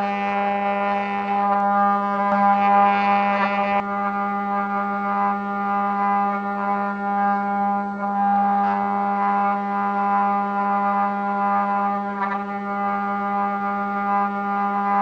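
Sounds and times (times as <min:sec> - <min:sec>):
bit cutting wood: 0:00.0 - 0:15.0
router spindle whine: 0:00.0 - 0:15.0.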